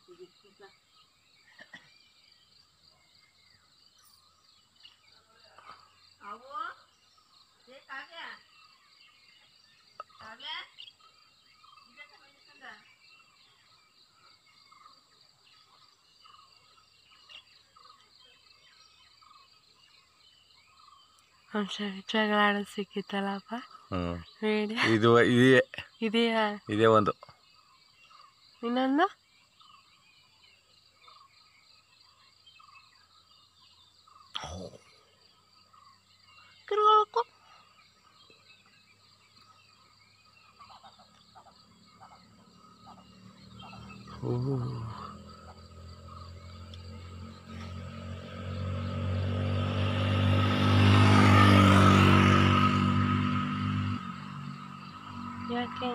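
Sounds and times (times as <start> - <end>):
faint insect trills: 0.0 - 52.0
bird chirps: 0.0 - 55.9.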